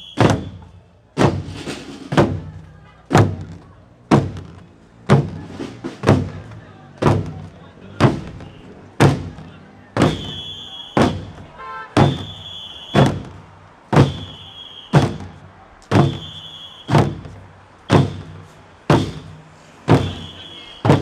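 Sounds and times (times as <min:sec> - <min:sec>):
drum marching beat: 0:00.0 - 0:21.0.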